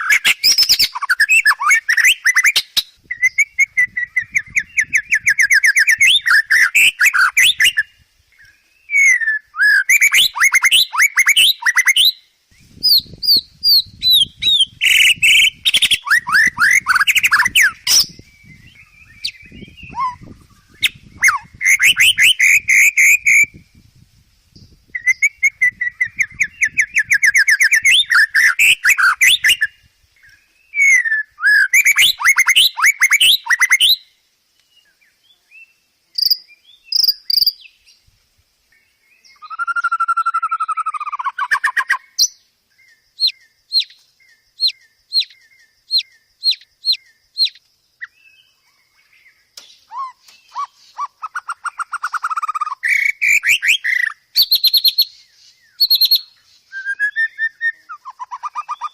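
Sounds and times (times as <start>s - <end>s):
bird singing whistled trills: 0.0s - 38.1s, 38.7s - 58.9s.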